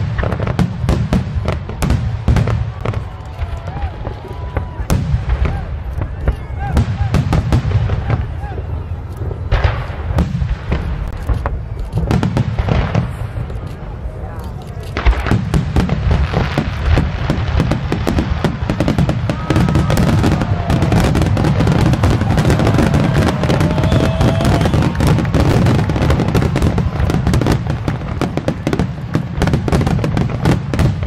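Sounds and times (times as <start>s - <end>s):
fireworks bursting and crackling: 0.0s - 31.0s.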